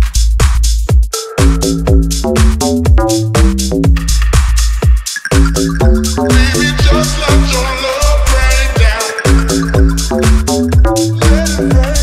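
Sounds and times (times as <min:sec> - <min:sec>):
deep house music: 0:00.0 - 0:12.0.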